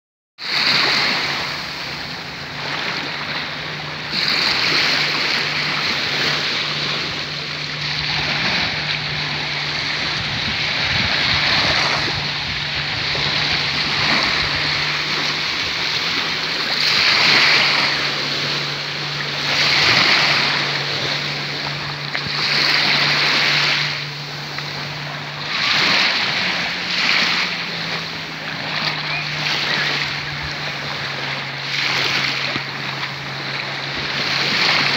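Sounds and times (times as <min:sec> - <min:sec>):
small waves washing on shore: 0:00.4 - 0:34.9
wind on microphone: 0:00.5 - 0:34.9
steady low hum: 0:01.0 - 0:34.9.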